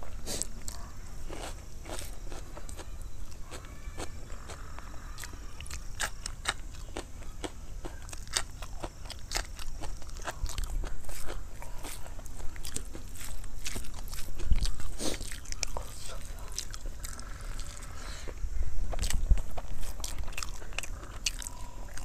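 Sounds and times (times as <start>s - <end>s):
chewing and crunching: 0.0s - 22.0s.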